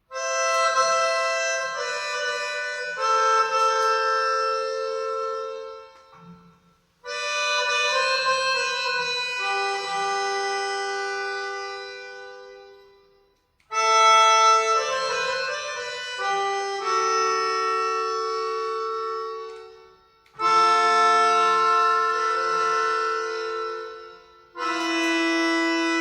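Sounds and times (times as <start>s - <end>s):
melodica playing chords: 0.0s - 26.0s.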